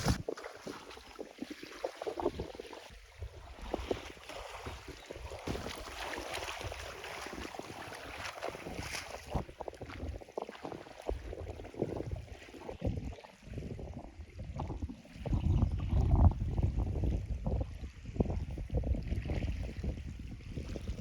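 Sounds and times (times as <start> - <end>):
wind on microphone: 0.0 - 0.4, 1.8 - 21.0
water splashing and sloshing: 0.0 - 21.0.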